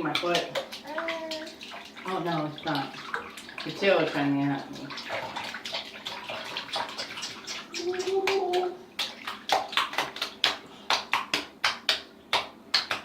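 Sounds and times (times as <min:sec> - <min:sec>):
bathwater sloshing and splashing: 0:00.0 - 0:13.0.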